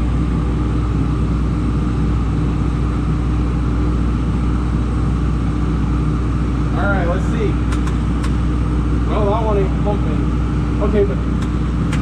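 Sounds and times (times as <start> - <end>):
machine drone with low hum: 0.0 - 12.0.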